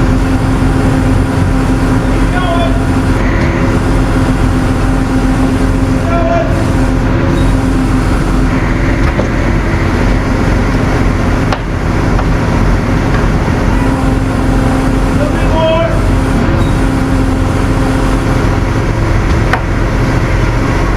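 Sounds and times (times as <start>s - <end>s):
heavy vehicle engine running: 0.0s - 20.9s.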